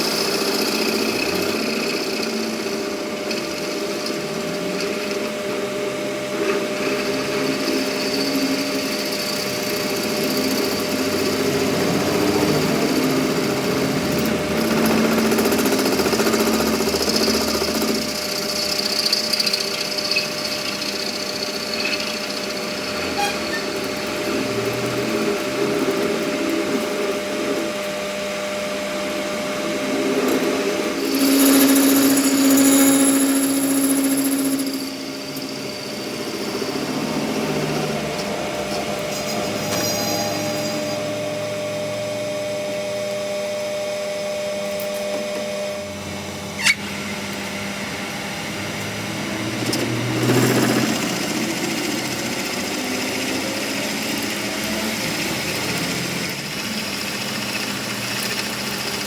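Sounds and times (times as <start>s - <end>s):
power tool running: 0.0s - 59.0s.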